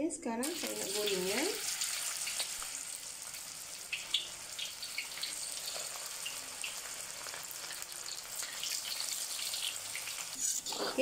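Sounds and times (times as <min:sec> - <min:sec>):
deep-frying sizzle with pops: 0:00.4 - 0:10.7.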